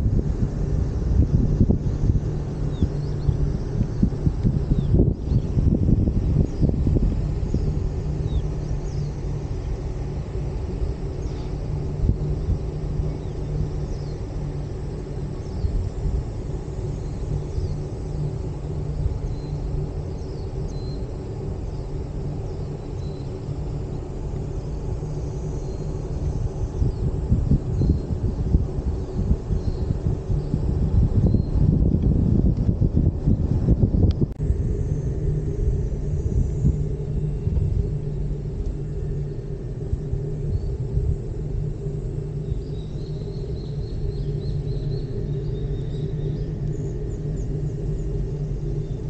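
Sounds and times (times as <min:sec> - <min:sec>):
gondola cabin rumbling on cable: 0:00.0 - 0:49.0.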